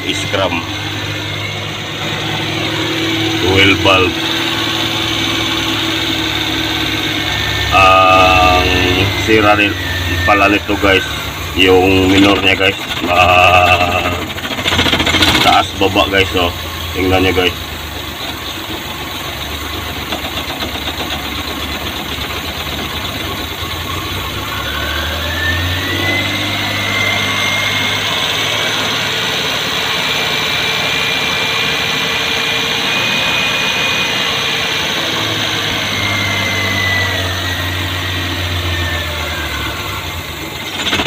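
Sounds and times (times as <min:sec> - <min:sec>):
engine idle revs hunting: 0:00.0 - 0:41.0
rising whine: 0:00.0 - 0:41.0.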